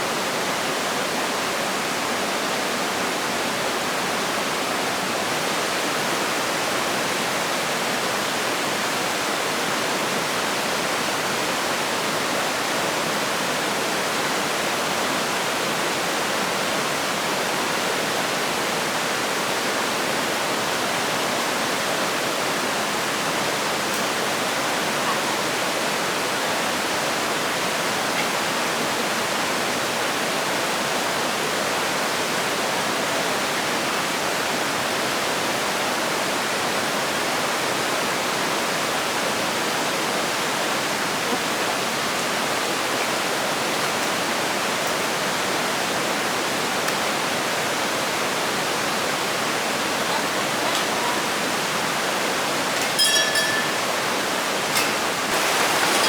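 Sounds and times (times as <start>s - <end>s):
rushing flowing water: 0.0s - 56.0s.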